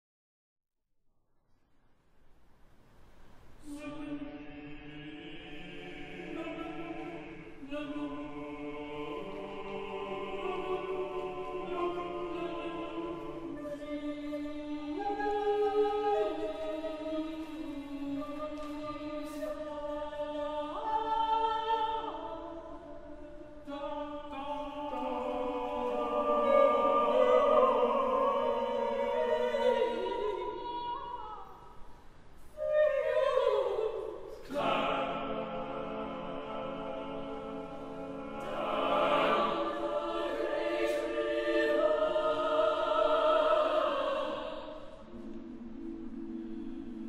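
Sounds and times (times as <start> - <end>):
choir singing held chords: 3.6 - 32.0, 32.6 - 47.0.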